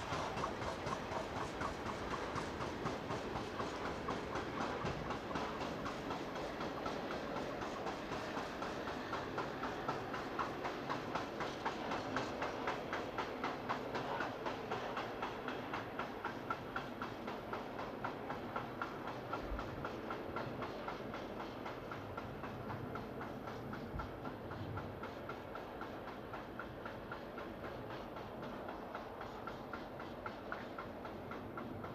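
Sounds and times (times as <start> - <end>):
freight train rumble: 0.0 - 31.9
train wheels clicking on track: 0.0 - 31.9.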